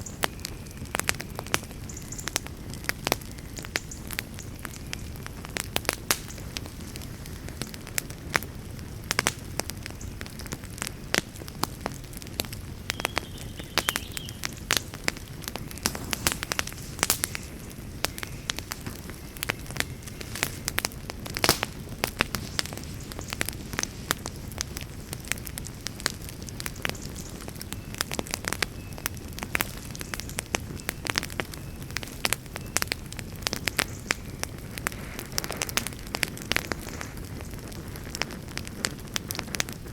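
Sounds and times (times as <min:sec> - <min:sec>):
campfire crackling and popping: 0:00.0 - 0:39.9
low rumble of flame: 0:00.0 - 0:39.9.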